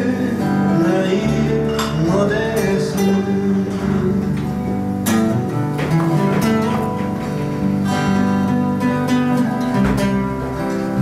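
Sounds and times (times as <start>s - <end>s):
acoustic guitars playing folk: 0.0s - 11.0s.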